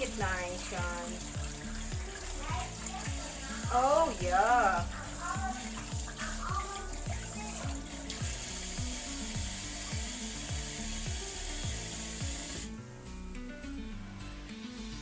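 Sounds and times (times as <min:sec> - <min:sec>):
music with steady kick drum: 0:00.0 - 0:12.7
tap water running into sink: 0:00.0 - 0:12.7.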